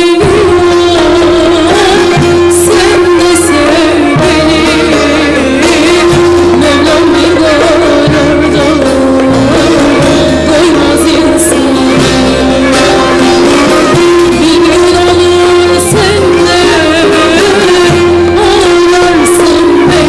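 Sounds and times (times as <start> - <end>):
instrumental accompaniment: 0.0 - 20.0
woman singing folk song: 0.0 - 20.0.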